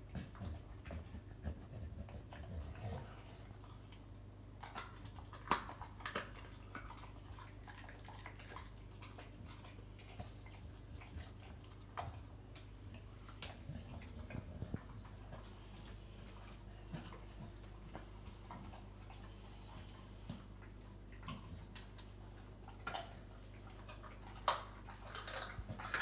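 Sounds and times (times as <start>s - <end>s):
dog chewing: 0.0s - 26.0s.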